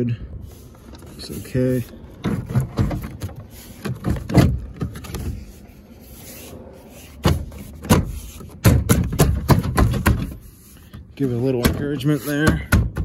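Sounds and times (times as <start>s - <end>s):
scrapes on plastic: 0.5s - 12.7s.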